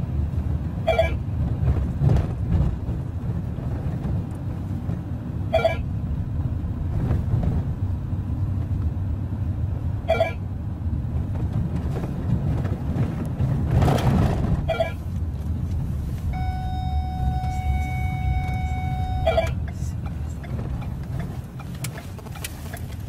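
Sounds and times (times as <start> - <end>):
van engine and road rumble: 0.0 - 23.0.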